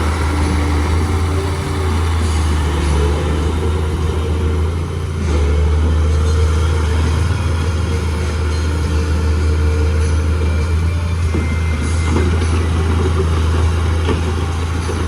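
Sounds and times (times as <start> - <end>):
bulldozer diesel engine rumbling: 0.0 - 15.0.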